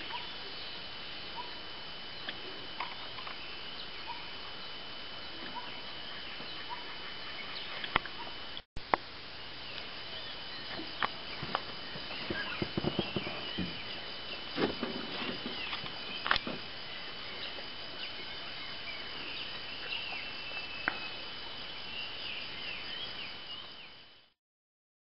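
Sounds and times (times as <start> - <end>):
high insect tone: 0.0 - 24.3.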